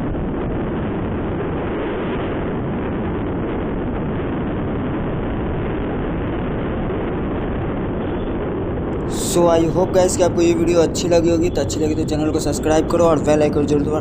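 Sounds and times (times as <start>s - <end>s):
wind rush on microphone: 0.0s - 14.0s.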